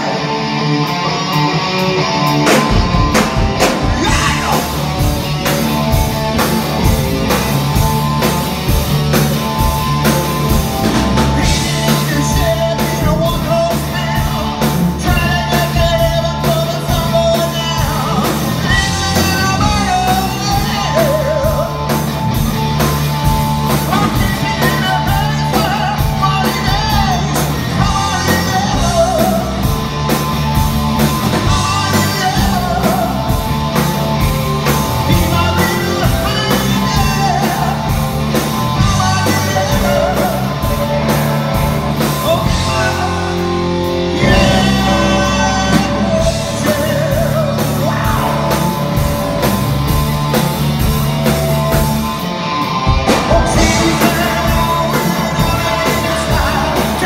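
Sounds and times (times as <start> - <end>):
bass guitar: 0.0 - 57.0
electric guitars: 0.0 - 57.0
male lead singer: 0.0 - 57.0
drum kit: 2.0 - 57.0.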